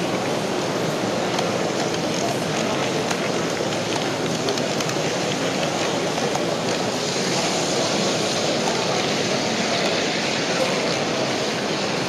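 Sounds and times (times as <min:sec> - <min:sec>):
model train wheels rattling on rails: 0:00.9 - 0:12.0.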